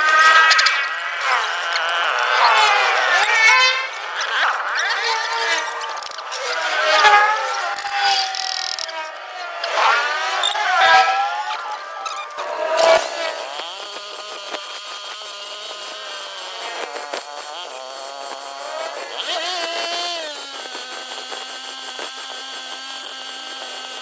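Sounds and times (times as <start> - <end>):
power tool motor running: 0.0 - 24.0.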